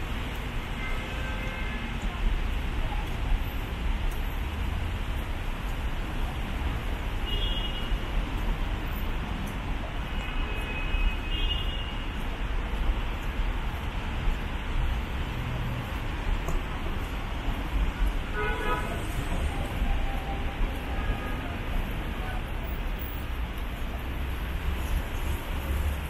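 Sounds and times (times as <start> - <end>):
traffic on wet street: 0.0 - 26.0.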